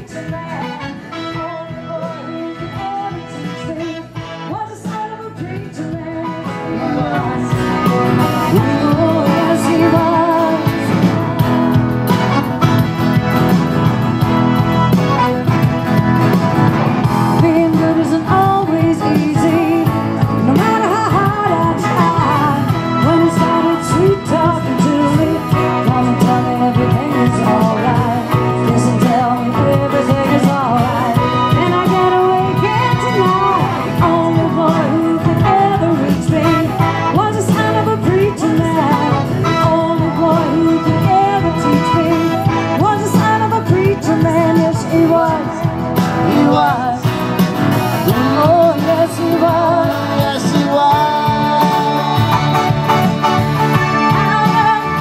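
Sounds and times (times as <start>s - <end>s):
woman singing: 0.0s - 12.6s, 17.0s - 55.0s
guitar and keyboard: 0.0s - 55.0s.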